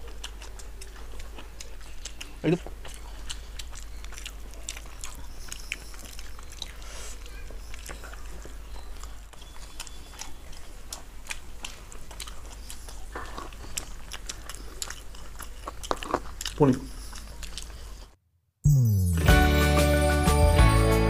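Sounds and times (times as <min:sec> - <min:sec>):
wet chewing and biting: 0:00.0 - 0:18.2.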